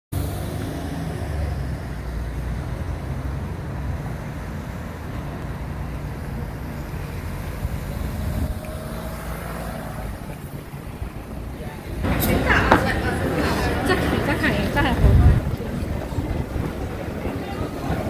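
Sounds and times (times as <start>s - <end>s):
road traffic: 0.1s - 18.0s.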